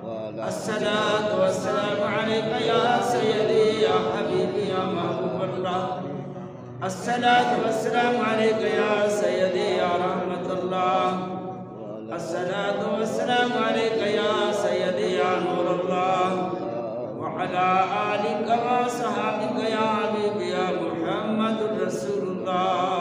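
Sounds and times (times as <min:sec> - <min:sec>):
man chanting devotional verse: 0:00.0 - 0:23.0.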